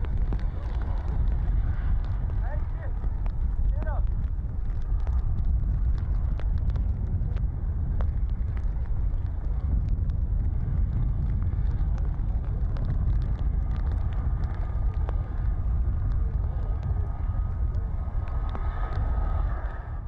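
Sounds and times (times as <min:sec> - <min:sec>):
lava fountain rumble: 0:00.0 - 0:20.0
spattering lava crackles and pops: 0:00.0 - 0:20.0.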